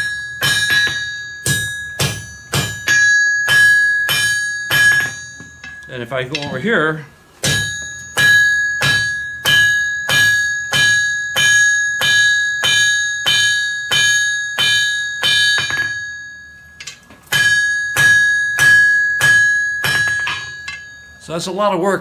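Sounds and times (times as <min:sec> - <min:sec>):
hammer blows on anvil: 0:00.0 - 0:06.8, 0:07.4 - 0:21.4
anvil ringing: 0:00.0 - 0:21.6.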